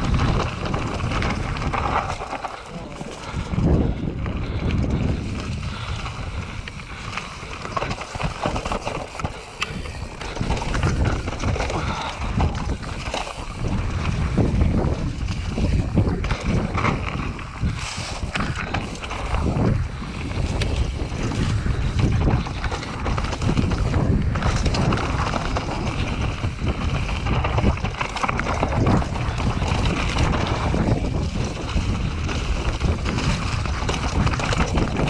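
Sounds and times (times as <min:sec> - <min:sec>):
bike clicks and rattles: 0:00.0 - 0:35.0
bike tyres crunching over dirt: 0:00.0 - 0:35.0
wind buffeting microphone: 0:00.0 - 0:35.0.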